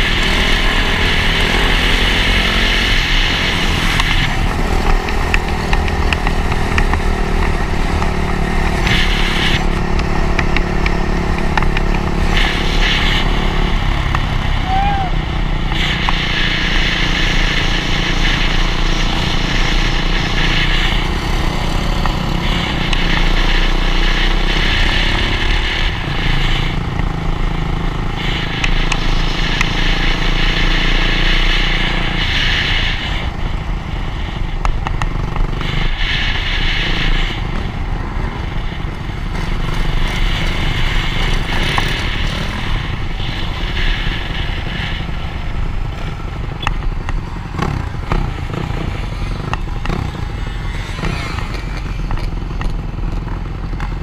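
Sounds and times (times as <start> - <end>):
dirt bike engine running: 0.0 - 54.0
wind rushing over microphone: 0.0 - 54.0.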